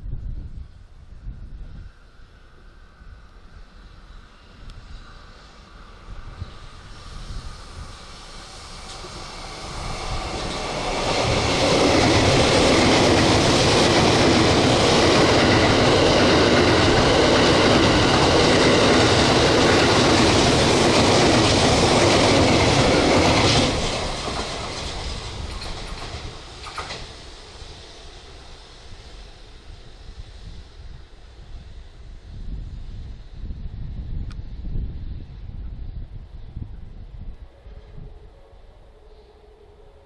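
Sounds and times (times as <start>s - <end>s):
train passing at speed: 0.0s - 40.0s.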